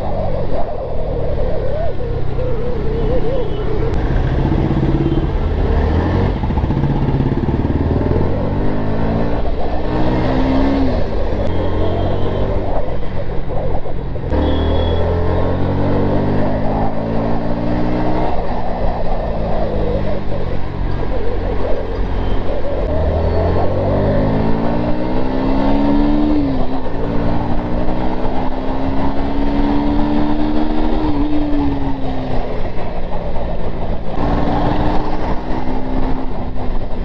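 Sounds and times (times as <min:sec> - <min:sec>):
motorcycle engine revving: 0:01.0 - 0:37.0.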